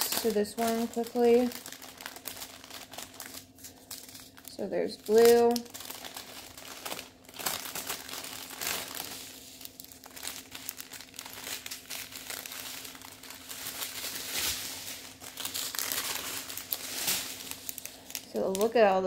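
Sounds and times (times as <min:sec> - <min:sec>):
faint steady hum: 0:00.0 - 0:19.0
plastic bags crinkling: 0:00.0 - 0:19.0.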